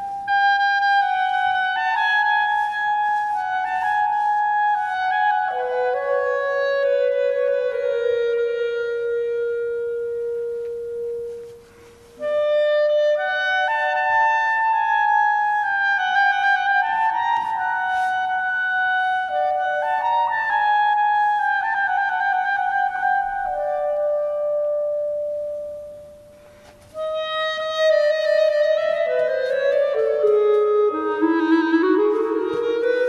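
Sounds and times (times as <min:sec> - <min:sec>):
solo clarinet: 0:00.0 - 0:33.0.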